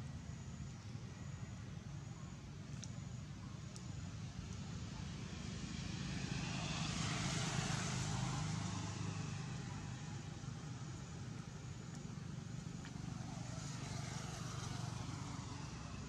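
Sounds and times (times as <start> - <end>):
passing motor engine hum: 0.0 - 16.0.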